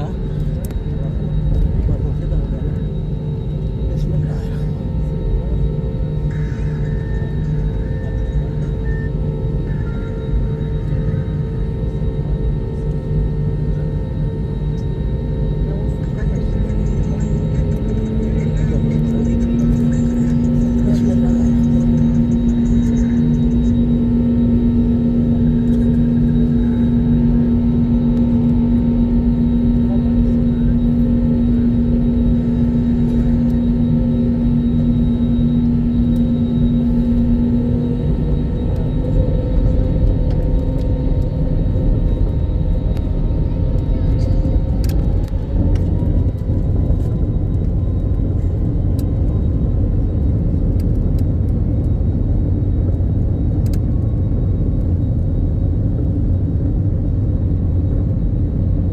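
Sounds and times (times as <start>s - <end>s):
jet engine rumble in cabin: 0.0s - 58.9s.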